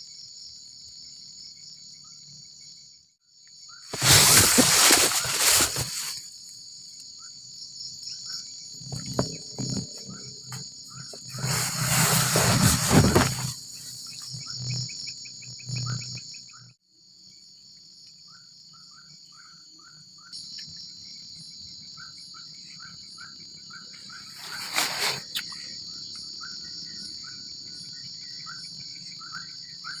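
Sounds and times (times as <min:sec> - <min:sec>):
crickets buzzing: 0:00.0 - 0:30.0
short insect chirp: 0:00.0 - 0:30.0.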